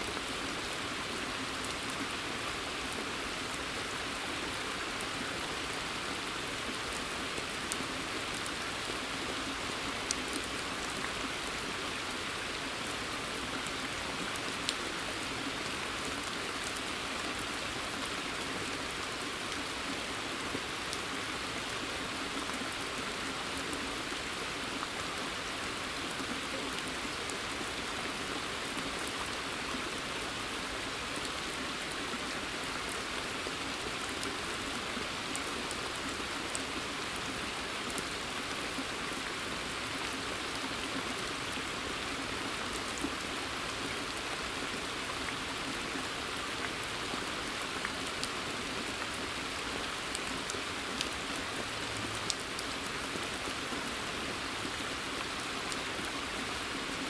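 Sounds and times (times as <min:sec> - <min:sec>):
rain hissing in a forest: 0:00.0 - 0:57.0.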